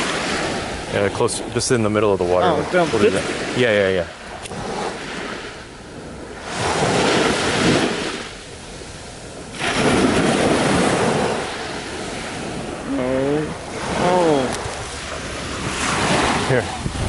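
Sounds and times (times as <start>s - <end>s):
waves washing on sandy beach: 0.0s - 17.0s.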